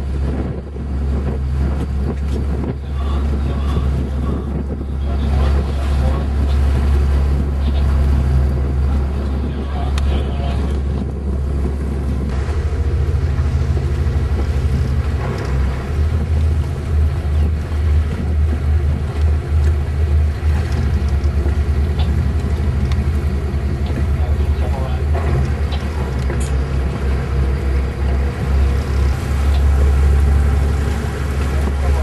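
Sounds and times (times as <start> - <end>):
boat engine rumbling: 0.0 - 32.0
wind buffeting microphone: 0.0 - 32.0.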